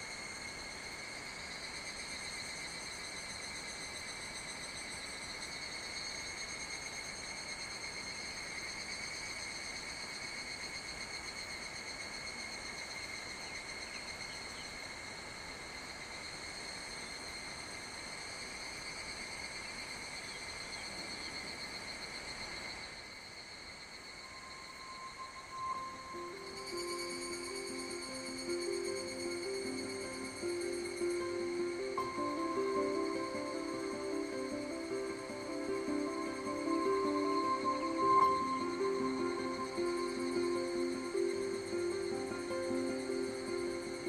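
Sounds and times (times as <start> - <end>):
faint background hiss: 0.0 - 44.0
insects buzzing chorus: 0.0 - 44.0.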